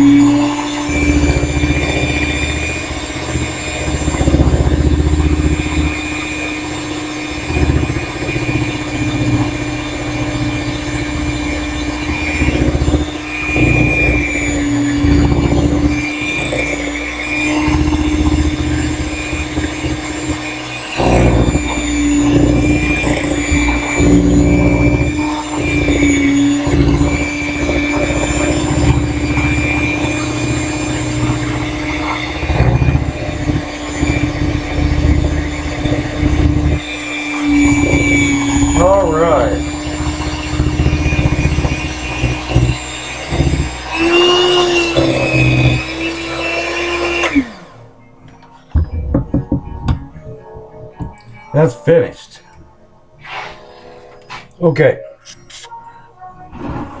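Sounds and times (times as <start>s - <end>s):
beaters churning thick batter: 0.0s - 47.8s
electric hand mixer motor hum: 0.0s - 47.9s.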